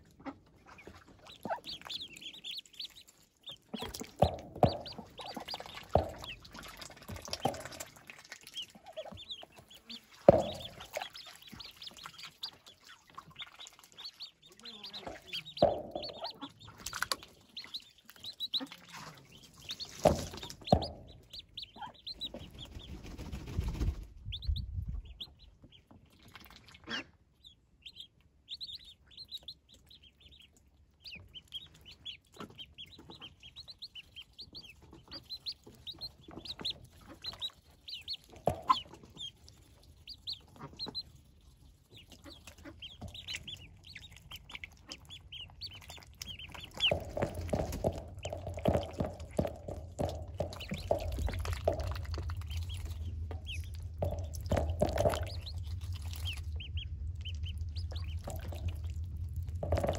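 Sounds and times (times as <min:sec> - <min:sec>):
ducklings peeping: 0:00.0 - 0:59.9.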